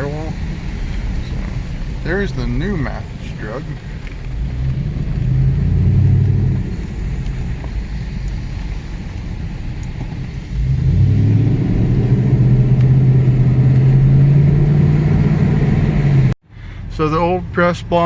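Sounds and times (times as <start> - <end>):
road noise: 0.0 - 18.0
truck engine accelerating: 0.0 - 18.0.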